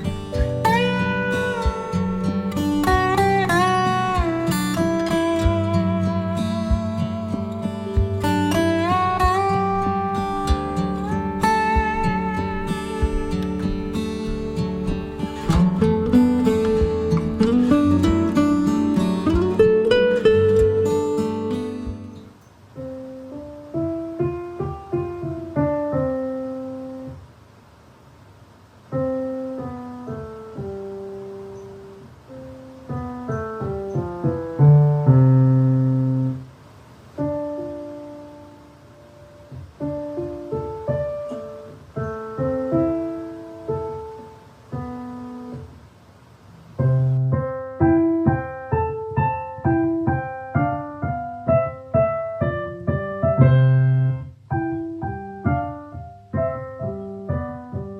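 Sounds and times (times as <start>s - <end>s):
solo piano playing: 0.0s - 27.4s, 28.8s - 57.9s.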